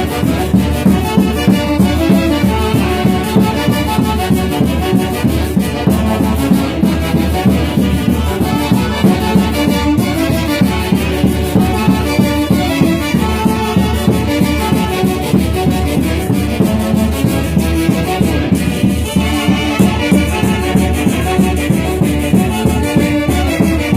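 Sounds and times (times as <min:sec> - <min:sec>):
steady even beat: 0:00.0 - 0:23.9
wind band playing melody: 0:00.0 - 0:23.9.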